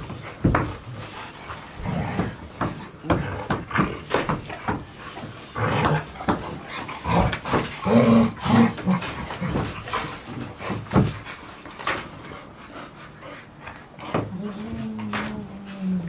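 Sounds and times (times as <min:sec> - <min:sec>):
puppies panting: 0:00.0 - 0:16.0.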